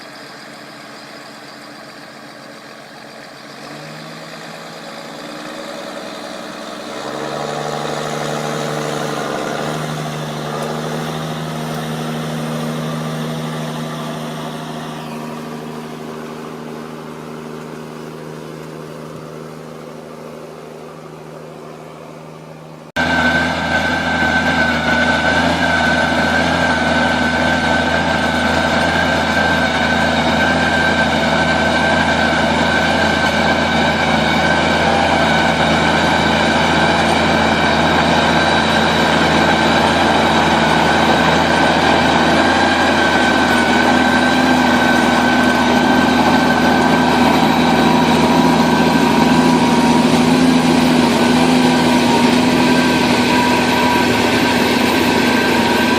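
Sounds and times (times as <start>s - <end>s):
motor running with high whine: 0.0s - 55.9s.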